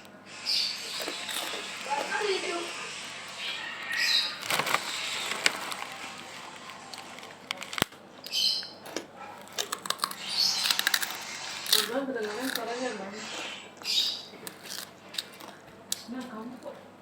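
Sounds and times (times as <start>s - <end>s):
crunching and chewing crispy snack: 0.3s - 16.7s.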